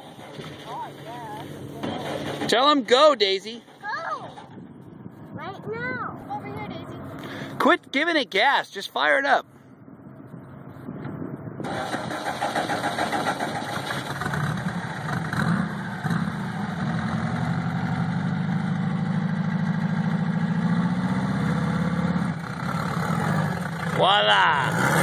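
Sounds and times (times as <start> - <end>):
buggy engine running: 0.0 - 7.8, 9.9 - 25.0.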